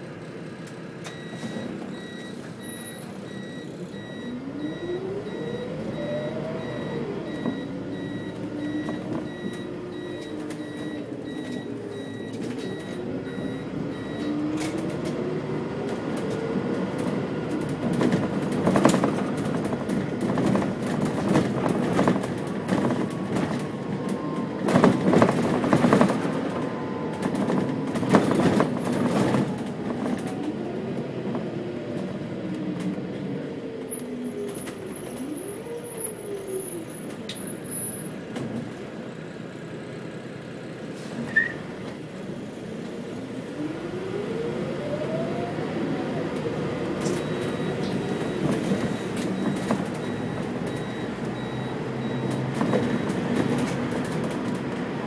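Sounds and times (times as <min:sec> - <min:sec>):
bus engine idling: 0:00.0 - 0:26.8, 0:34.7 - 0:44.1, 0:45.9 - 0:55.0
bus drivetrain whine: 0:00.0 - 0:55.0
bus interior rattling: 0:00.0 - 0:55.0.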